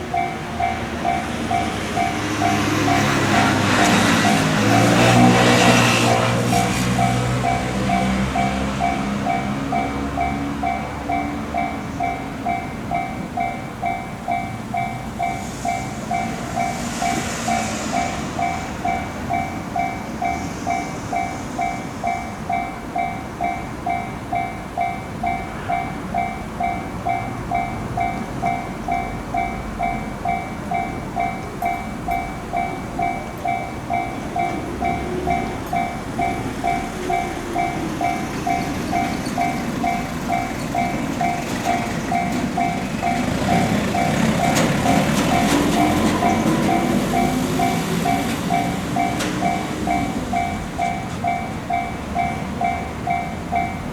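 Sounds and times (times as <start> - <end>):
level-crossing warning bell: 0.0 - 53.9
train running over rails: 0.0 - 53.9.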